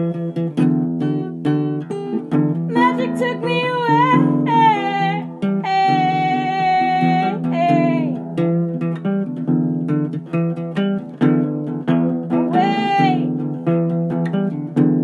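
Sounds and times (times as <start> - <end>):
song with plucked acoustic guitar: 0.0 - 15.0.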